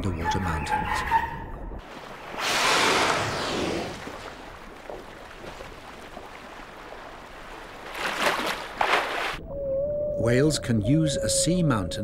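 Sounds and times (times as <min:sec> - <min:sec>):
wind: 0:00.0 - 0:12.0
open sea noise: 0:01.4 - 0:12.0.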